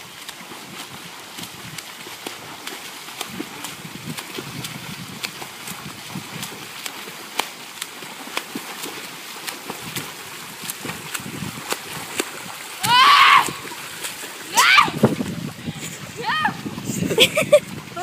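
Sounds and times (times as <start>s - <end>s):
rain falling on pool: 0.0s - 18.0s.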